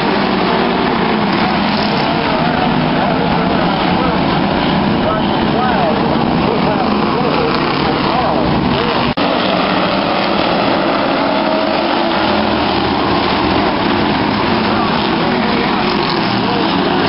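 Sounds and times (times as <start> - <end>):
racing car engines droning: 0.0 - 17.0.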